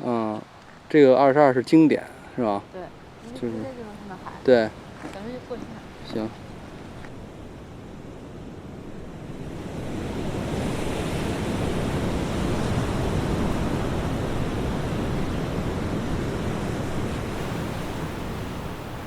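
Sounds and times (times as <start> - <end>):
ocean surf with wind: 0.0 - 19.0.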